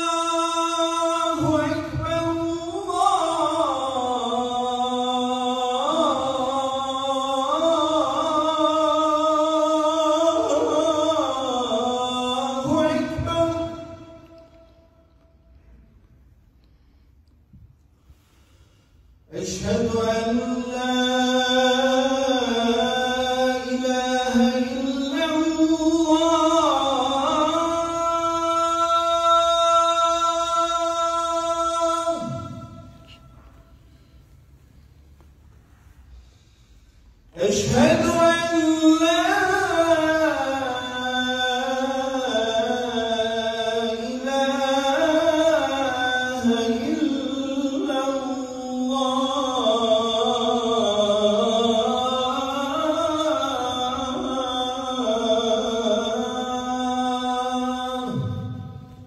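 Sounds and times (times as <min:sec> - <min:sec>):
man chanting call to prayer: 0:00.0 - 0:15.0, 0:19.3 - 0:33.9, 0:37.3 - 0:59.0.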